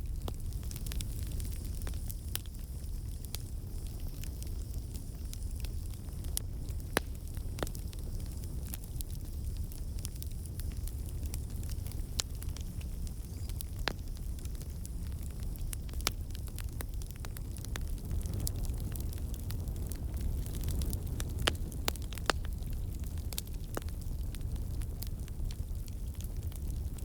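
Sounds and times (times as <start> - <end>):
campfire flames rumbling: 0.0 - 27.0
fire crackling and popping: 0.0 - 27.0.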